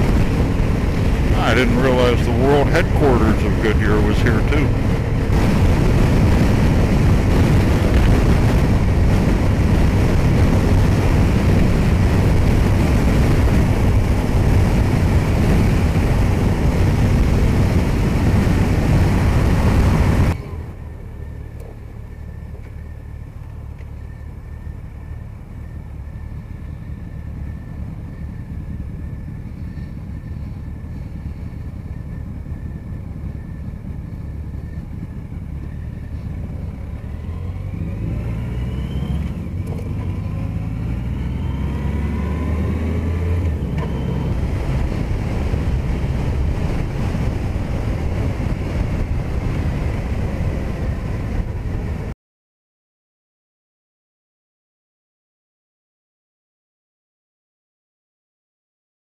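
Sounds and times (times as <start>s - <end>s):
motorcycle engine: 0.0s - 52.1s
wind and road noise: 0.0s - 52.2s.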